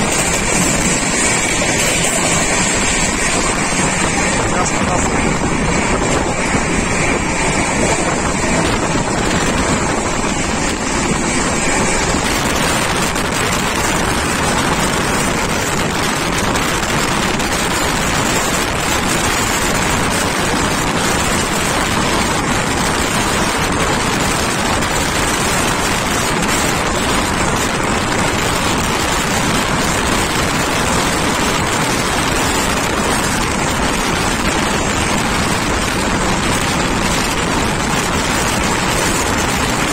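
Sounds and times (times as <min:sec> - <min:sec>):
train wheels on rails: 0:00.0 - 0:39.9
wind blowing on microphone: 0:00.0 - 0:39.9.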